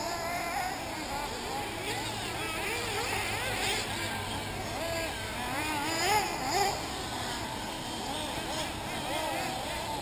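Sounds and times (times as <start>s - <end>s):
rc car engines whining: 0.0s - 10.0s.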